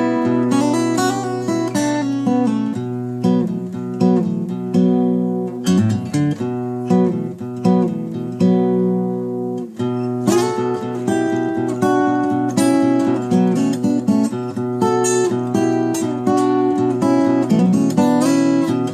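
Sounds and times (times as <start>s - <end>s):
acoustic guitar strumming chords: 0.0s - 18.9s.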